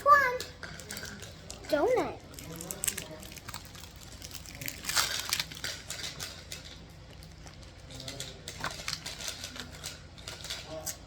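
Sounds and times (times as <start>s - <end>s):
plastic packaging clicks and rustles: 0.2s - 11.0s.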